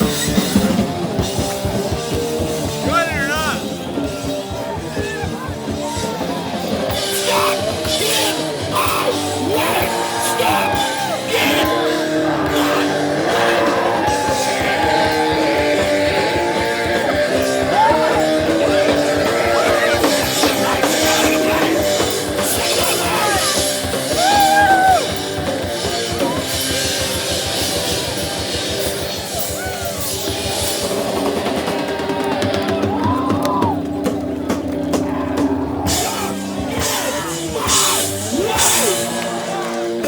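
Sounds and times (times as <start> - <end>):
punk band playing live: 0.0 - 40.0.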